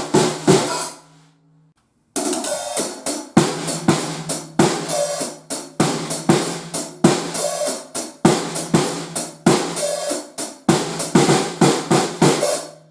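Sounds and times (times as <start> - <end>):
acoustic drum kit groove: 0.0 - 1.2, 2.2 - 12.9.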